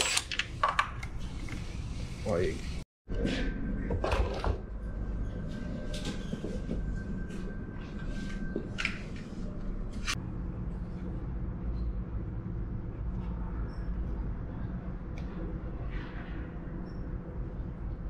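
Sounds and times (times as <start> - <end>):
steady low hum: 1.3 - 18.0.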